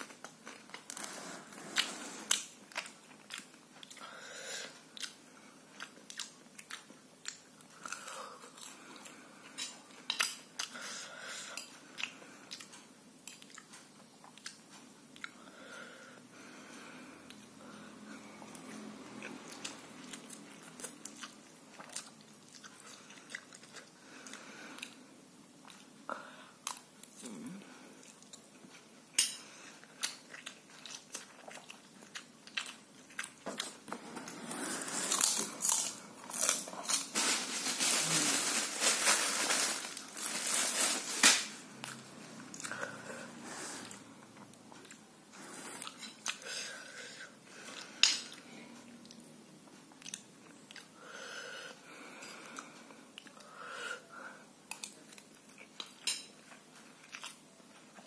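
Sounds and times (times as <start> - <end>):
person chewing noodles: 0.0 - 37.1, 41.8 - 49.3, 49.9 - 58.0.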